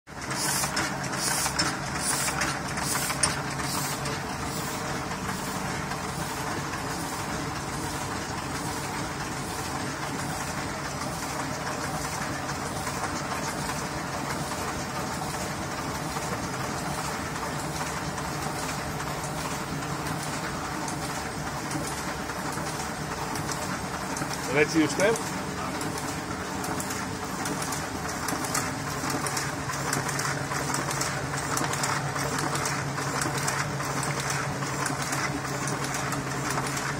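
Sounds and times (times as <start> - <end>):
printing press running: 0.1 - 36.9.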